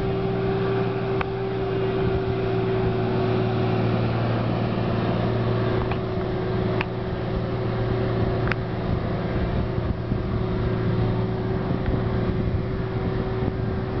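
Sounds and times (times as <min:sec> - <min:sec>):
crane diesel engine droning: 0:00.0 - 0:14.0.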